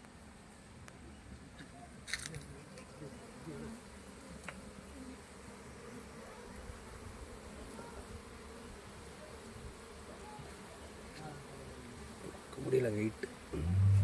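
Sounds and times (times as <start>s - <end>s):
honeybees buzzing: 2.5s - 14.0s.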